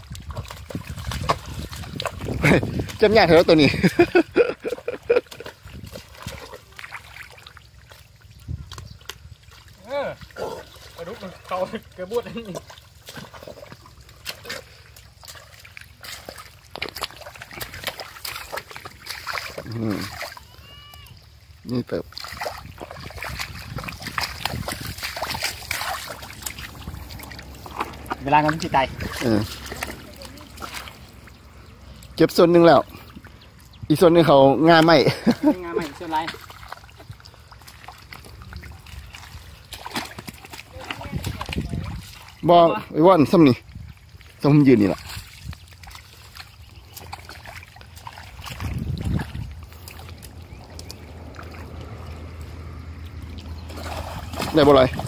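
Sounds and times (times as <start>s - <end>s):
water pump engine humming: 0.0s - 45.1s, 45.7s - 55.0s
squelching and splashing in mud: 0.0s - 55.0s.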